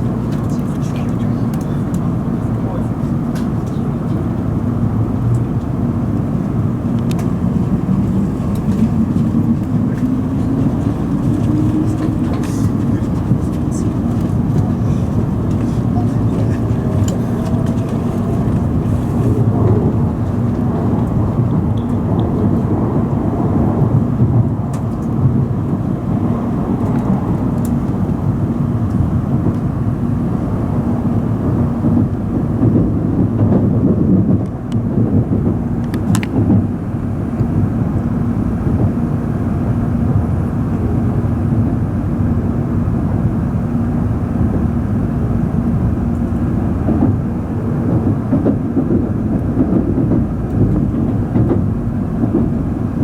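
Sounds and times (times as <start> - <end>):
train cabin low rumble: 0.0 - 53.0.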